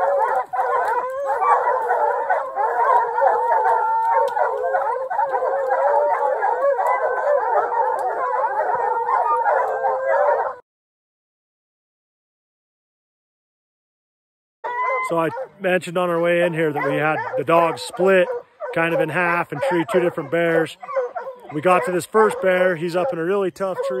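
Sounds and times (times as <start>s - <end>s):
hounds baying and howling: 0.0s - 10.6s, 14.6s - 24.0s.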